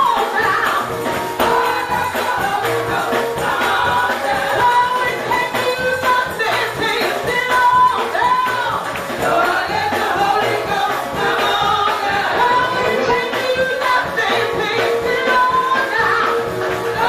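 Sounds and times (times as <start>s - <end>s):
gospel choir singing: 0.0s - 17.0s
instrumental accompaniment: 0.0s - 17.0s.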